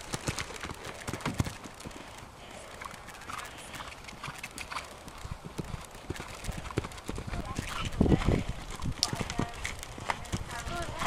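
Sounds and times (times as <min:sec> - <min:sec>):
horse hooves cantering on sand: 0:00.0 - 0:11.0.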